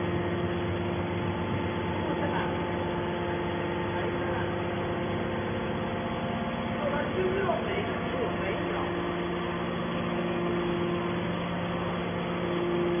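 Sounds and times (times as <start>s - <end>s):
hydraulic pump motor humming: 0.0s - 13.0s.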